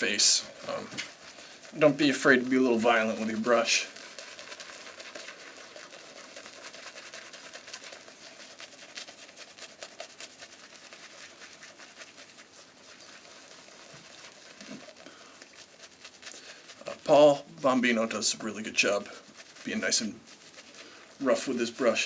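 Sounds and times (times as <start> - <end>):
shaving brush scrubbing lather: 0.0 - 22.0.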